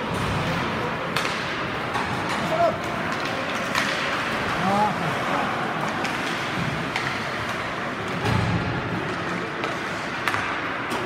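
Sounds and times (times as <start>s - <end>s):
stick hitting puck: 0.1s - 4.5s, 5.8s - 11.0s.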